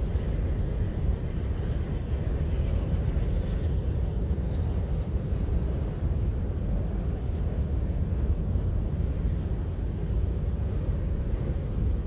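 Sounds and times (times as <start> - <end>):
freight train rumbling over bridge: 0.0 - 12.0.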